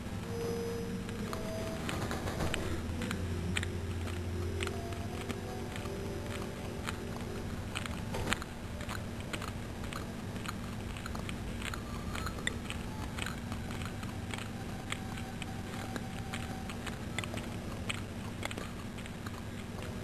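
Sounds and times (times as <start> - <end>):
steady low hum: 0.0 - 20.0
cat lapping milk: 2.6 - 20.0.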